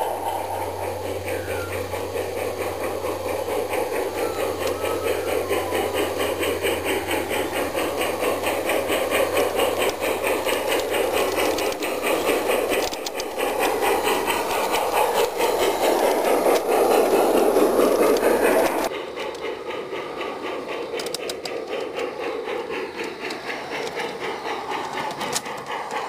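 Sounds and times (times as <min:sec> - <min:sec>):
model steam locomotive chuffing: 0:00.0 - 0:26.0
wheels rattling on track: 0:00.0 - 0:26.0.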